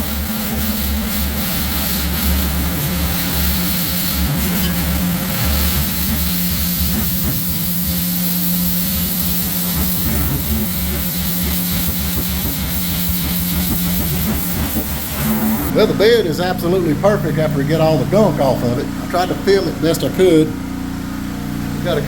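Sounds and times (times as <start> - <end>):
water jet hissing: 0.0 - 20.2
pressure washer motor humming: 0.0 - 22.0.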